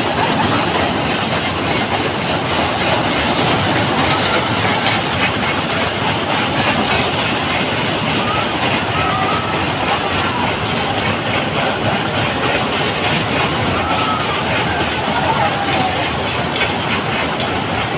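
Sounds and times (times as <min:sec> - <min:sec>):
ride cars rumbling and clattering: 0:00.0 - 0:17.9.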